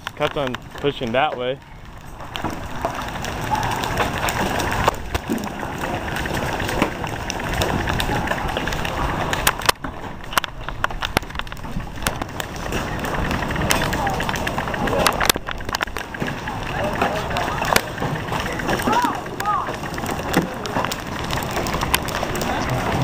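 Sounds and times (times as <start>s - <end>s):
sharp clicks and knocks: 0.0s - 23.0s
storm wind rushing: 1.8s - 23.0s.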